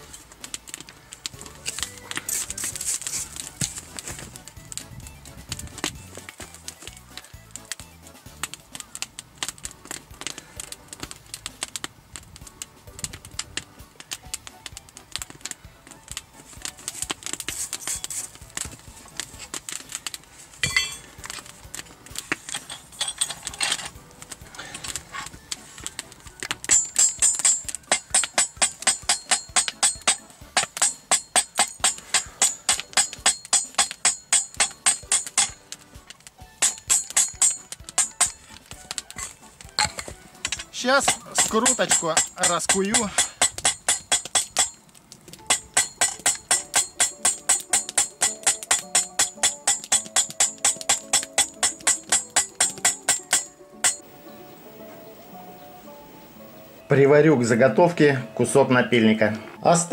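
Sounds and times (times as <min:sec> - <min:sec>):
background music: 0:00.0 - 0:59.9
hammer striking hot steel: 0:08.4 - 0:56.9.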